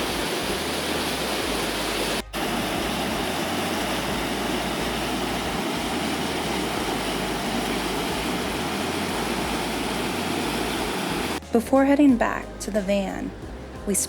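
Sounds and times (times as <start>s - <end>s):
water rushing down spillway: 0.0s - 11.4s.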